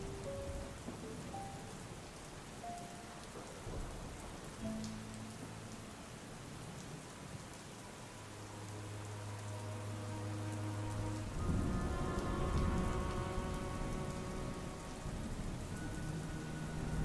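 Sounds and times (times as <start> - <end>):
soft rain falling: 0.0 - 17.0.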